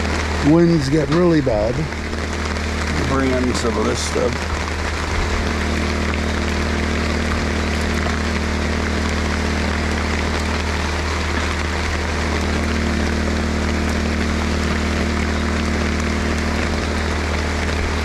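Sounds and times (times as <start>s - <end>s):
portable generator humming: 0.0s - 18.0s
rain falling on a tarp: 0.0s - 18.0s.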